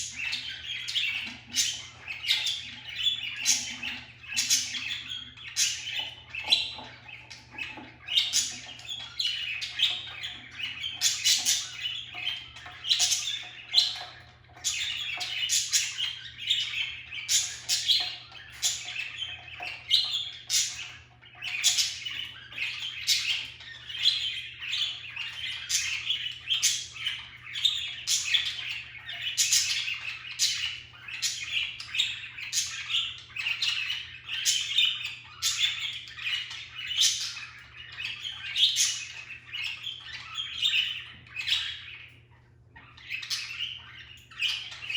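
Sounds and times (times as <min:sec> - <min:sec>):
budgerigars chirping and chattering: 0:00.0 - 0:44.9.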